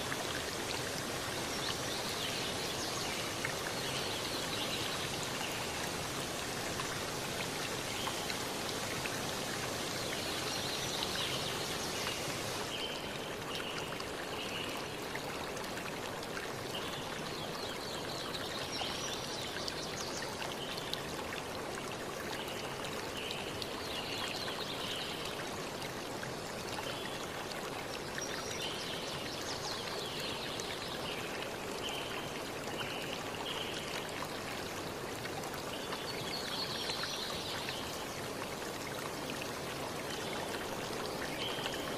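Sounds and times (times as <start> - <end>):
steady hissing background noise: 0.0 - 41.9.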